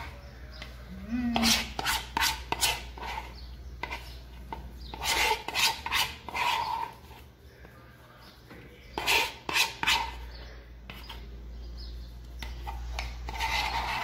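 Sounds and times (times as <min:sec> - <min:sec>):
metal spoon scraping a bowl: 0:00.0 - 0:07.3, 0:08.9 - 0:11.3, 0:12.4 - 0:14.0.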